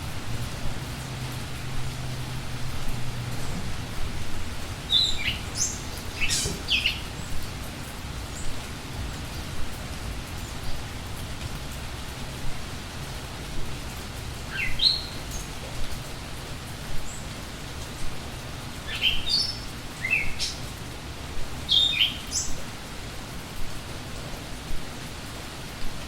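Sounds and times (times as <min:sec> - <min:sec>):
steady rain: 0:00.0 - 0:26.0
songbirds chirping: 0:00.9 - 0:11.1, 0:12.0 - 0:23.1.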